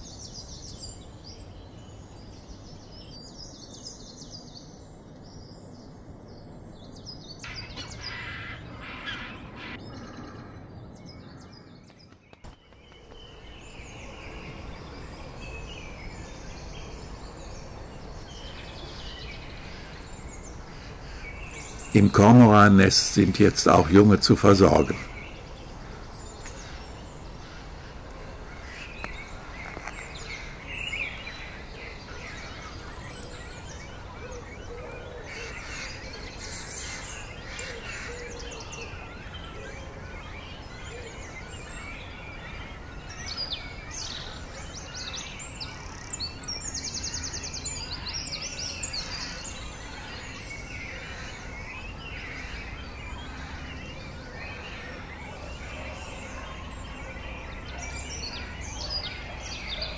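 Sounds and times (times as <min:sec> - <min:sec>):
birds chirping and calling: 0:00.0 - 0:59.9
low outdoor background noise: 0:00.0 - 0:59.9.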